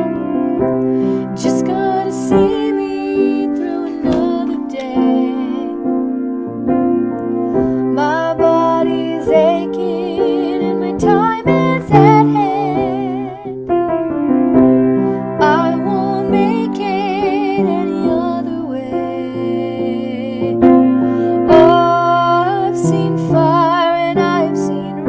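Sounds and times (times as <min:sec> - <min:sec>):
woman singing with vibrato: 0:00.0 - 0:06.0, 0:07.8 - 0:13.7, 0:15.4 - 0:25.0
piano accompaniment: 0:00.0 - 0:25.0.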